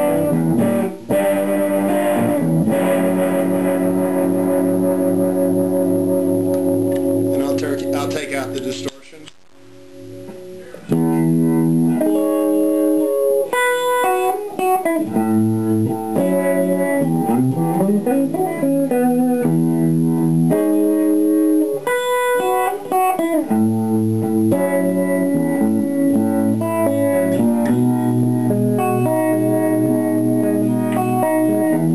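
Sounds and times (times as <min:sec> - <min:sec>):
clean electric guitar with vibe effect: 0:00.0 - 0:31.9.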